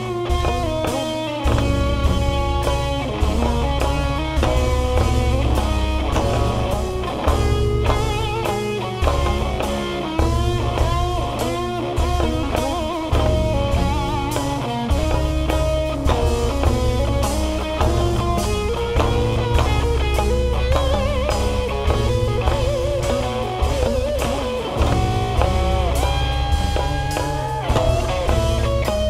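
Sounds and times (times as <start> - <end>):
live band music: 0.0 - 29.0.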